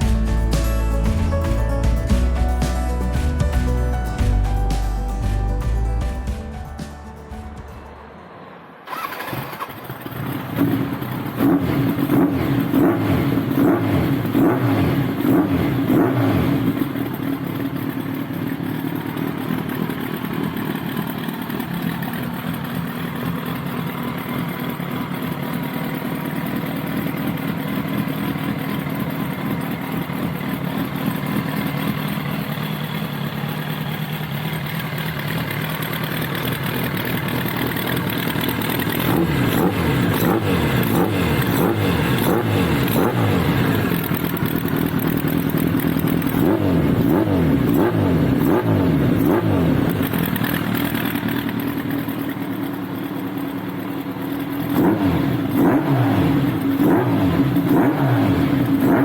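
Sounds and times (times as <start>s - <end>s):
motorcycle engine revving and idling: 8.9s - 59.0s.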